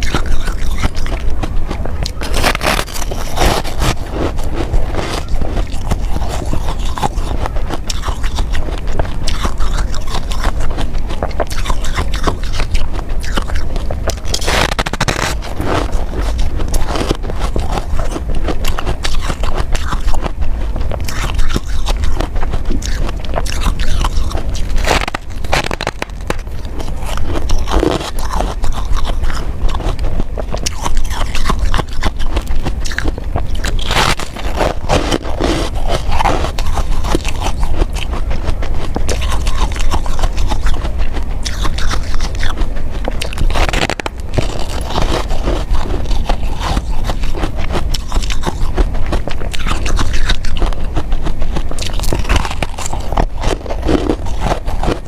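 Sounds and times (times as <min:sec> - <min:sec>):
ice being chewed crunching: 0:00.0 - 0:55.0.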